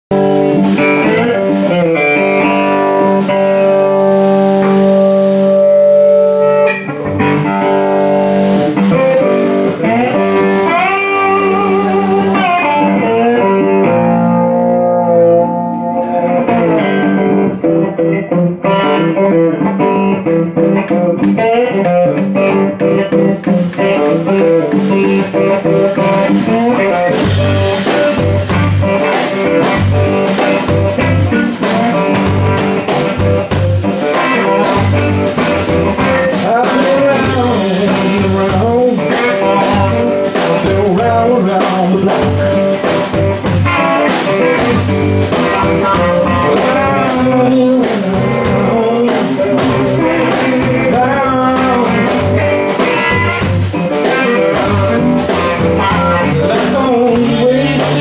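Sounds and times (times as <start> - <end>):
electric guitar bending notes: 0.1 - 58.0
live blues band playing: 0.1 - 58.0.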